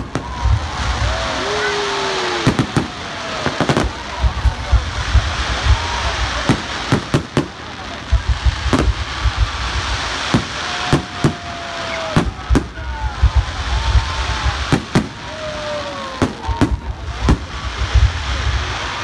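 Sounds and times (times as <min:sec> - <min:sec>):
fireworks bangs: 0:00.0 - 0:19.0
murmur of large crowd: 0:00.0 - 0:19.0.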